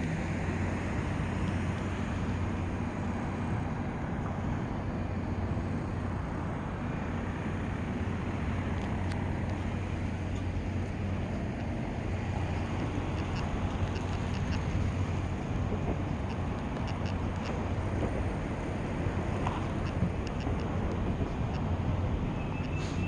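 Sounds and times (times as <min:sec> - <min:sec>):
constant low hum: 0:00.0 - 0:23.0.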